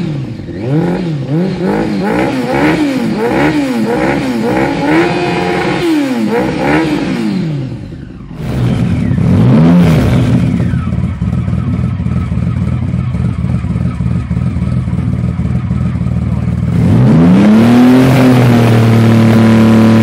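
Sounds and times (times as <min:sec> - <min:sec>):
motorcycle engine idling: 0:00.0 - 0:16.9
motorcycle engine revving: 0:00.0 - 0:20.0.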